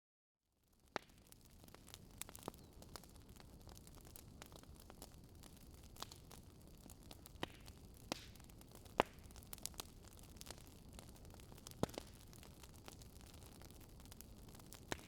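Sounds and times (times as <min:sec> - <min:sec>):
wood fire crackling: 0:00.6 - 0:15.0.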